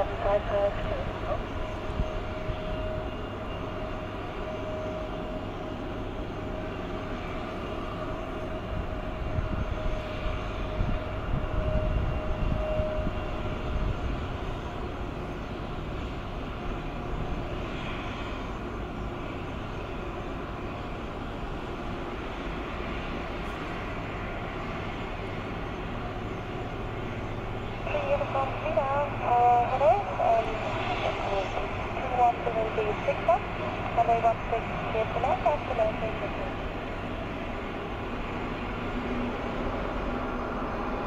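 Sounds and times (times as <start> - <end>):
jet engine rumble: 0.0 - 41.0
thin jet engine whine: 0.0 - 41.0.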